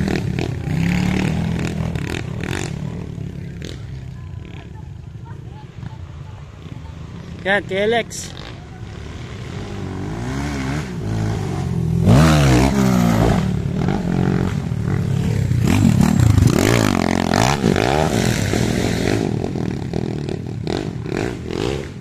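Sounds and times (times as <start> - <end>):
dirt bike engine revving: 0.0 - 4.8, 6.4 - 22.0.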